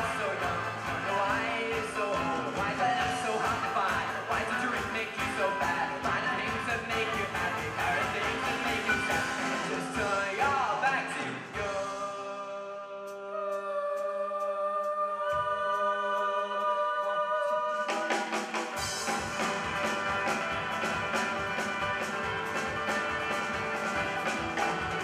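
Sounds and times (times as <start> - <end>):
live band playing: 0.0 - 13.6, 16.1 - 25.0.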